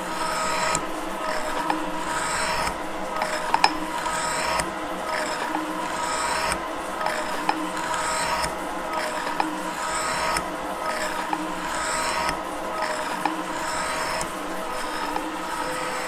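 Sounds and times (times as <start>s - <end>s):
tool scraping metal: 0.0s - 16.0s
metal shaper ram stroking: 0.1s - 16.0s.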